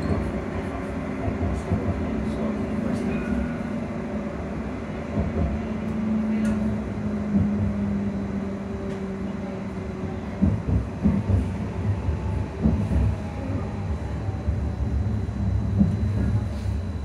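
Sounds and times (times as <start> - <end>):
train ride rumble: 0.0 - 17.0.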